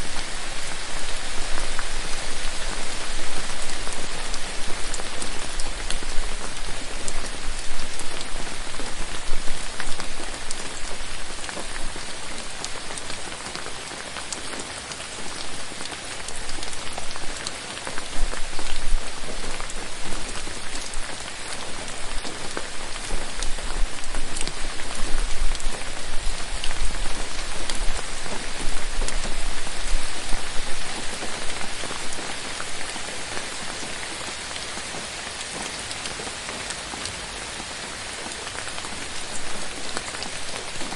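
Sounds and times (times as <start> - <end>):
rain falling: 0.0 - 40.9
raindrops hitting: 0.0 - 40.9.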